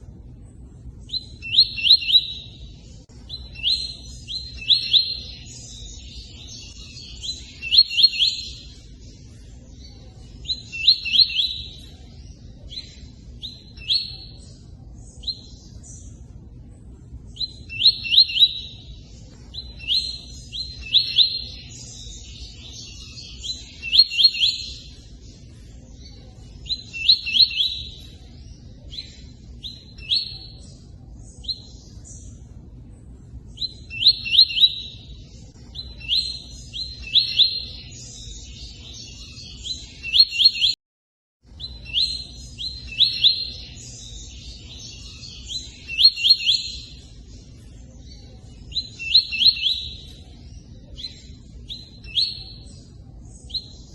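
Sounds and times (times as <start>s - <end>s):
songbird singing: 0.0s - 40.8s, 41.4s - 53.9s.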